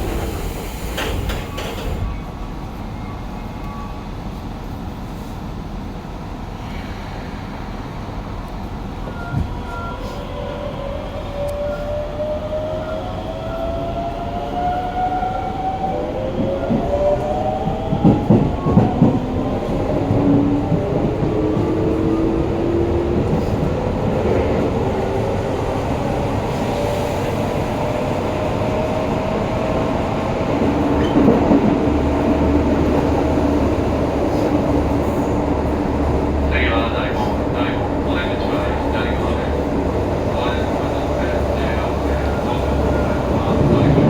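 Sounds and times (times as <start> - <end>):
train running rumble: 0.0 - 44.0.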